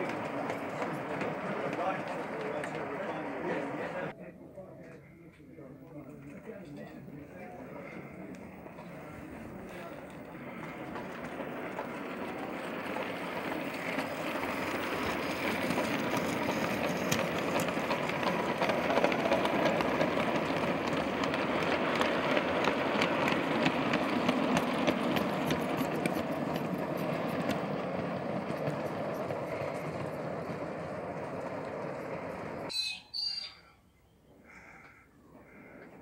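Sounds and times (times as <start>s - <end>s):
model train rumbling past: 0.0s - 4.2s, 6.2s - 32.7s
wheels clicking over rail joints: 0.0s - 4.2s, 5.9s - 32.7s.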